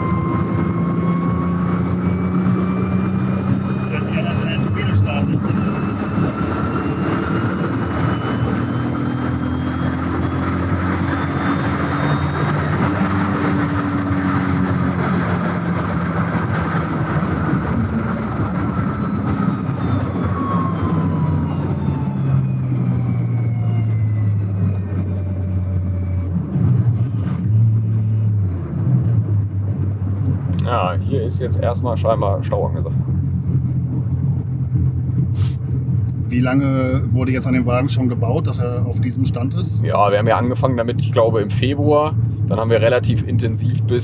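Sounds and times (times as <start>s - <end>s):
road and wind noise: 0.0s - 44.0s.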